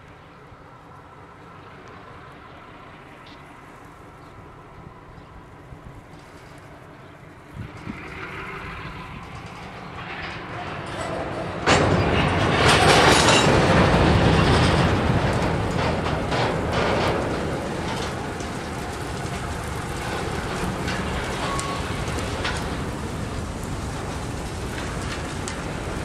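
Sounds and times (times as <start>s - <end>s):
freight cars rumbling and rattling: 0.0s - 26.0s.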